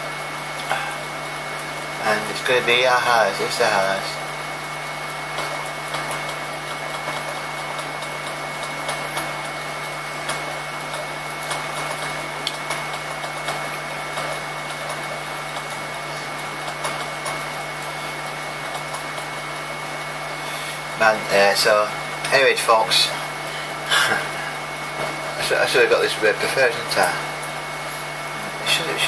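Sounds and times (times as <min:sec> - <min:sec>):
room noise hum and hiss: 0:00.0 - 0:29.0.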